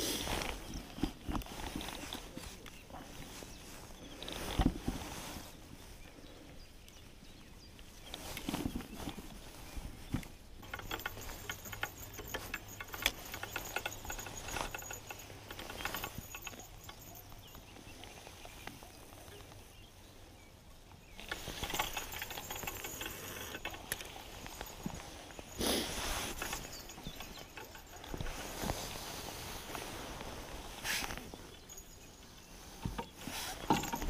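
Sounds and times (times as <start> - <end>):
rustling handling noise: 0.0 - 34.0.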